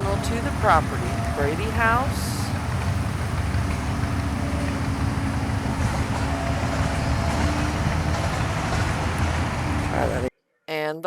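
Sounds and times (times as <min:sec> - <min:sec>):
held tones: 0:00.0 - 0:10.3
machinery rumbling: 0:00.0 - 0:10.3.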